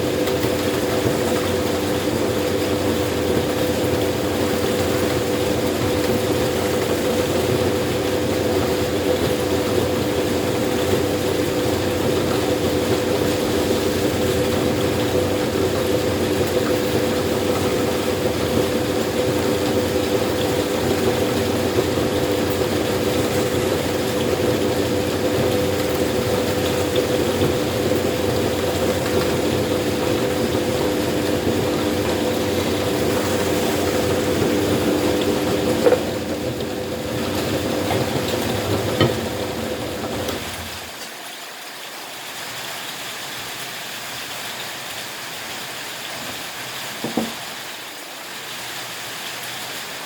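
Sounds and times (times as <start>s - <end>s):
meat grinder motor humming: 0.0s - 41.0s.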